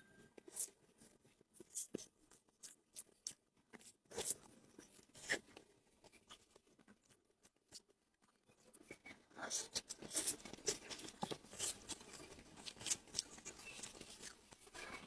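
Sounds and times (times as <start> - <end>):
soft eating crunches: 0.0 - 15.0.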